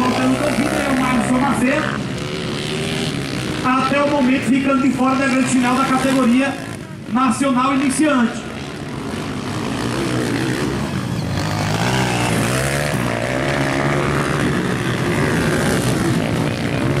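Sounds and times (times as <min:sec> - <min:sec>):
motocross bike engines: 0:00.0 - 0:17.0
motorbike revving: 0:00.0 - 0:17.0.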